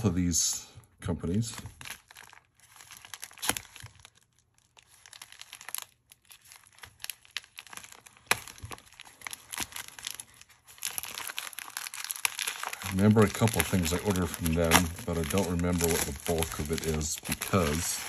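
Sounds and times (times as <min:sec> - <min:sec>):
plastic mailer crinkling: 0:01.2 - 0:18.0.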